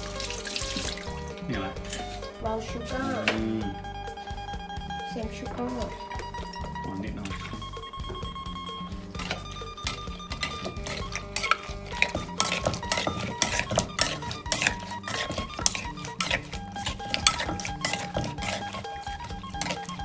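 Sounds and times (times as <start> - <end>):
utensils pounding in a mortar: 0.0 - 4.3, 4.9 - 20.0
acoustic guitar music: 0.0 - 20.0.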